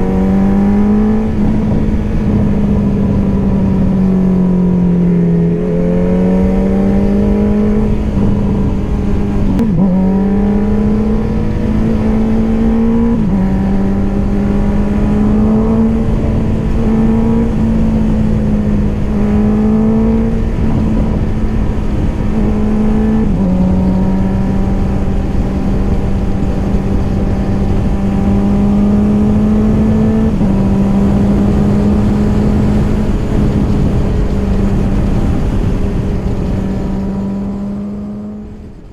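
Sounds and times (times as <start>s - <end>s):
motorcycle engine upshifting: 0.0s - 38.9s
wind and road noise: 0.0s - 38.9s.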